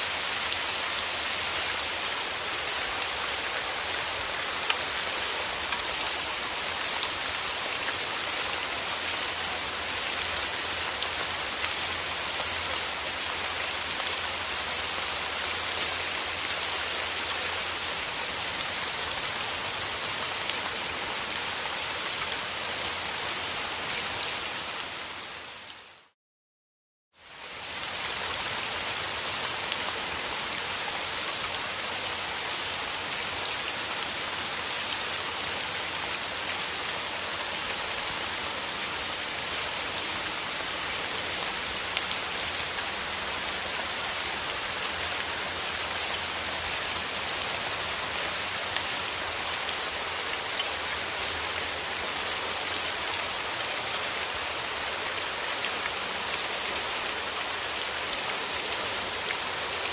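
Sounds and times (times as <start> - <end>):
rain hissing on surfaces: 0.0 - 26.2, 27.2 - 59.9.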